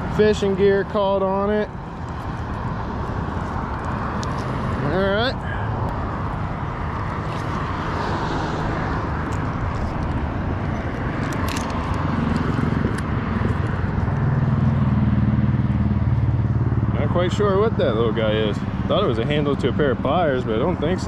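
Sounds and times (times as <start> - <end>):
passing road traffic: 0.0 - 21.0
vehicle engine hum: 0.0 - 21.0.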